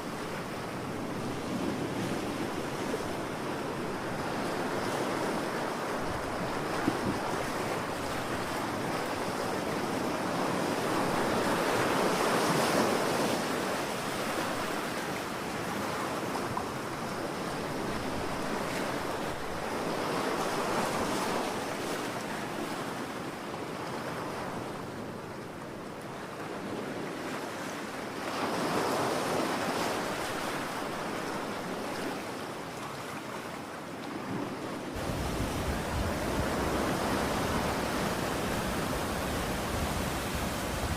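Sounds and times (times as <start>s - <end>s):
ocean waves breaking: 0.0s - 23.1s, 26.4s - 40.9s.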